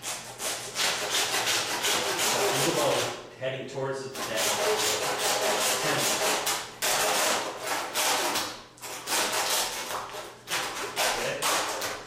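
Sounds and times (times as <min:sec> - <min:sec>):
hand saw rasping through bone: 0:00.0 - 0:03.2, 0:04.2 - 0:12.0.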